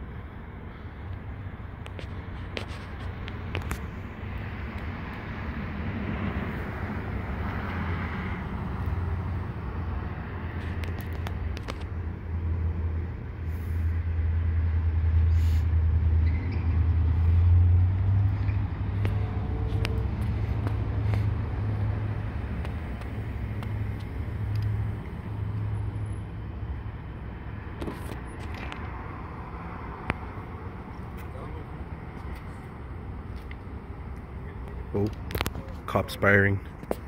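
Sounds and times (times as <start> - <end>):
motor vehicle rumble: 0.0 - 37.0.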